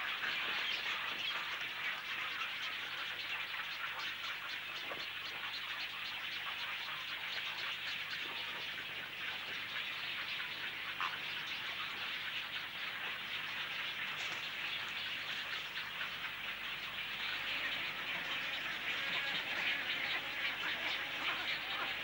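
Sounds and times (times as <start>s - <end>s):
birds splashing on water: 0.0s - 22.0s.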